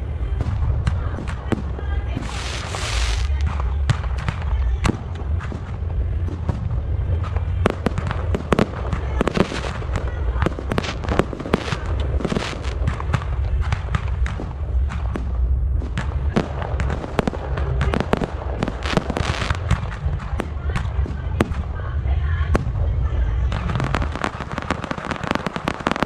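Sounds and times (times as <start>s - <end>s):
fireworks banging and crackling: 0.0s - 26.0s
steady low rumble: 0.0s - 26.0s.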